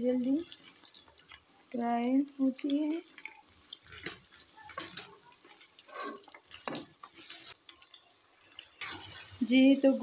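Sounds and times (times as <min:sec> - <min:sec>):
onions sizzling in hot oil: 0:00.0 - 0:10.0
oil crackling pops: 0:00.8 - 0:09.1.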